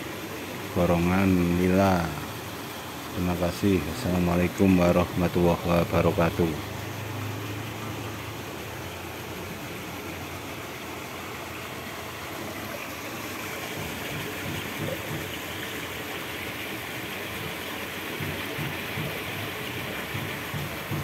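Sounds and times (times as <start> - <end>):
water pouring from a pipe: 0.0 - 21.0.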